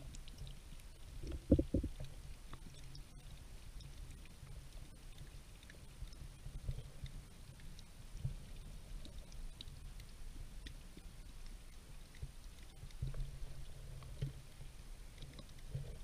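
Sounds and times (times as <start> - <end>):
faint scattered ticks: 0.0 - 16.0
muffled underwater water rumble: 0.0 - 16.0.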